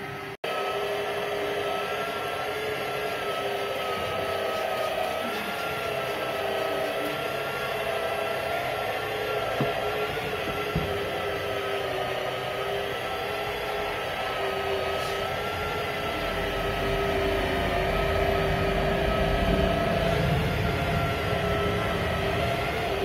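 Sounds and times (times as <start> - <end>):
electric motor drone: 0.0 - 23.0.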